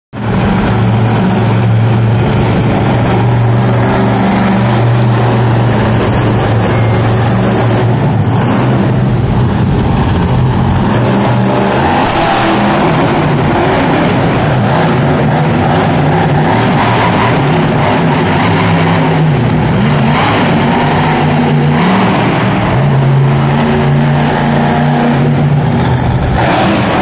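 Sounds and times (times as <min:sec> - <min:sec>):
monster truck engine revving: 0:00.2 - 0:27.0.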